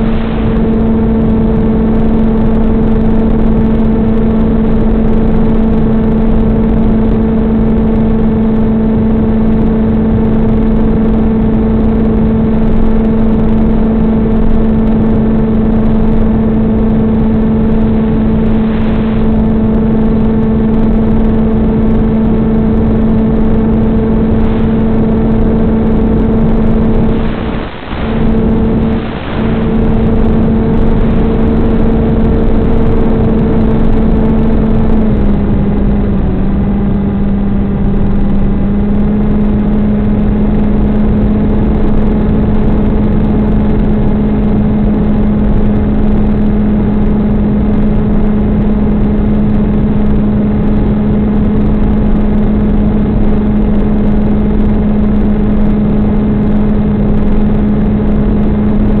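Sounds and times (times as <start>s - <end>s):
electric motor and propeller humming: 0.0s - 59.0s.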